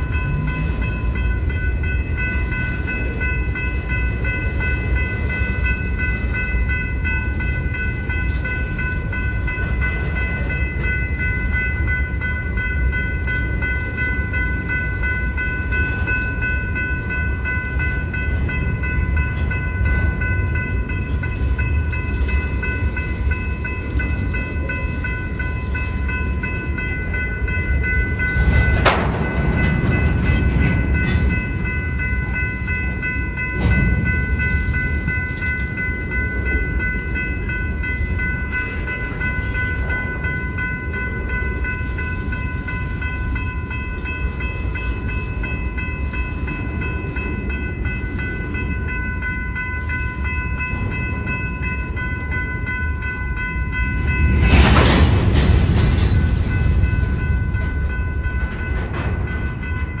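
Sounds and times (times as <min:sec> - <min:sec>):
crossing warning bell ringing: 0:00.0 - 1:00.0
train wheels rumbling and rattling: 0:00.0 - 1:00.0.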